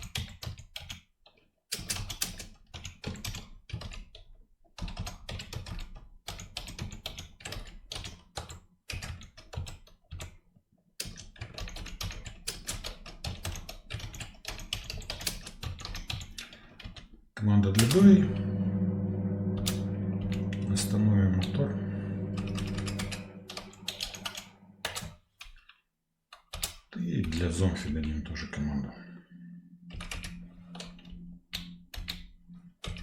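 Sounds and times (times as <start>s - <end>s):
keyboard typing: 1.7s - 10.4s, 11.0s - 17.1s, 17.8s - 28.3s, 29.4s - 33.0s.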